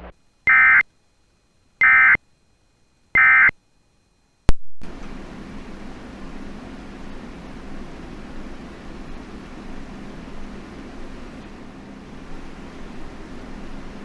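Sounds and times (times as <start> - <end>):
steady hiss with low hum: 0.0 - 14.0.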